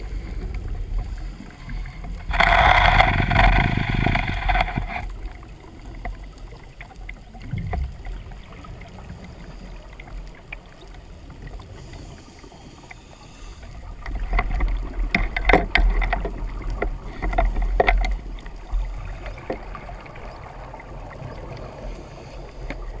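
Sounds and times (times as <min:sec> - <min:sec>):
low underwater rumble: 0:00.0 - 0:23.0.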